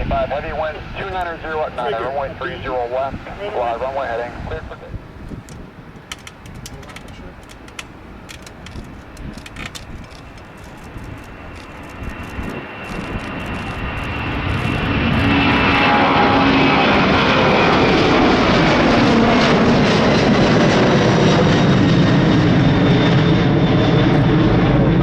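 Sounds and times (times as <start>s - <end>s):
jet engines at takeoff thrust: 0.0s - 25.0s.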